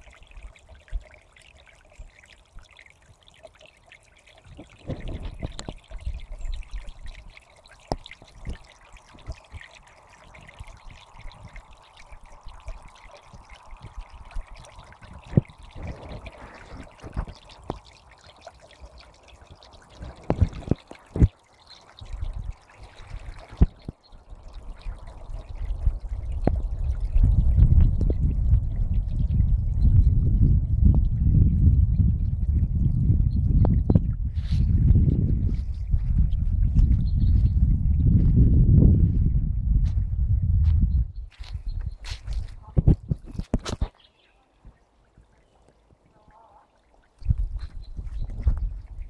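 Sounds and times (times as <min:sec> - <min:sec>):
brook trickling: 0:00.0 - 0:49.0.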